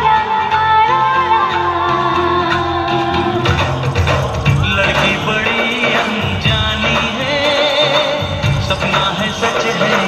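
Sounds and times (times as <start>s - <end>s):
loud dance music: 1.9s - 10.0s.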